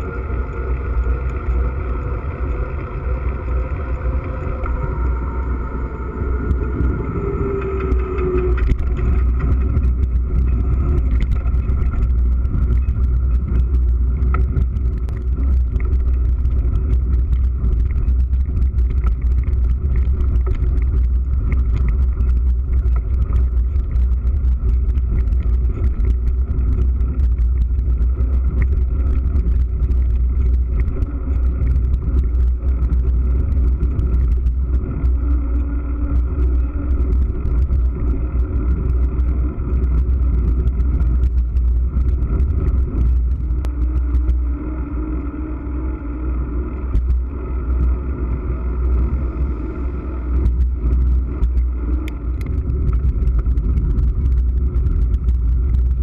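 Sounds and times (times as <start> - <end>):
gravel clicks and rattles: 0.0 - 56.0
wind and tyre rumble: 0.0 - 56.0.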